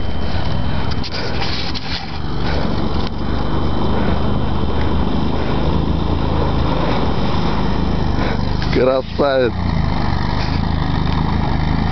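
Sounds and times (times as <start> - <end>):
vehicle engine droning: 0.0 - 11.9.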